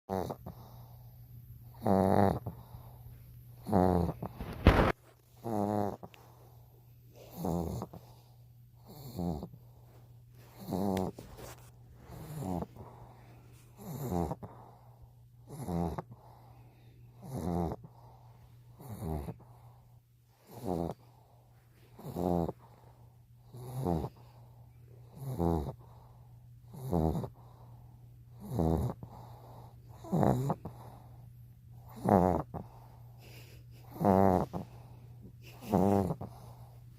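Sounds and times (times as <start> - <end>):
dog snoring: 0.1 - 36.9
steady low hum: 0.3 - 36.9.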